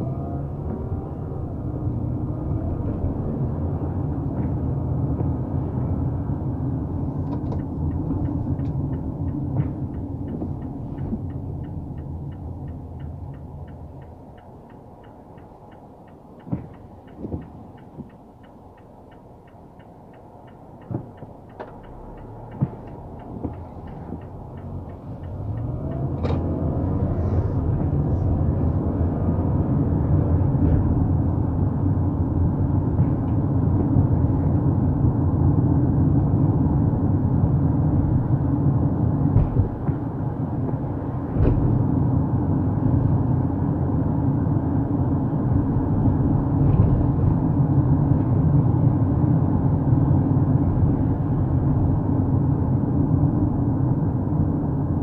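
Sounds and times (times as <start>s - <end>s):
road and engine rumble in car: 0.0s - 55.0s
turn signal ticking: 0.3s - 55.0s.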